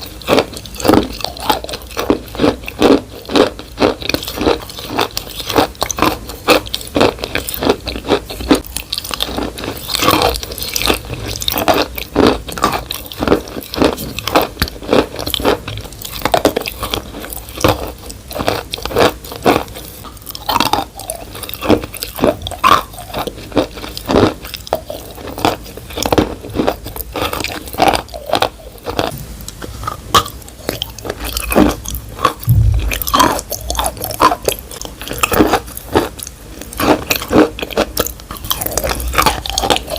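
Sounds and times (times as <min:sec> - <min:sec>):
wet crunchy chewing: 0:00.0 - 0:39.9.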